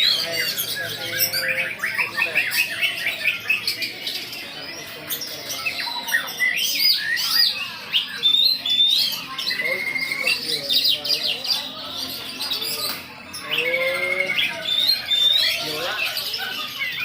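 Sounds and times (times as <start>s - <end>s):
many songbirds singing: 0.0s - 17.0s.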